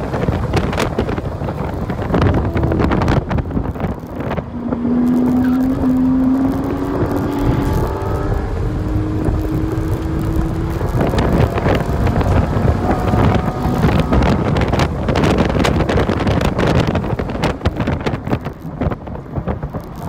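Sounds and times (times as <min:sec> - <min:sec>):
car engine under load: 0:00.0 - 0:20.0
sharp exhaust crackles: 0:00.0 - 0:20.0
tyre and wind noise: 0:00.0 - 0:20.0.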